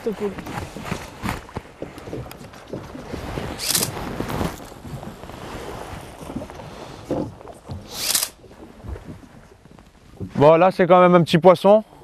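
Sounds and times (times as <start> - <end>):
sea noise: 0.0 - 12.0
wind: 0.0 - 12.0.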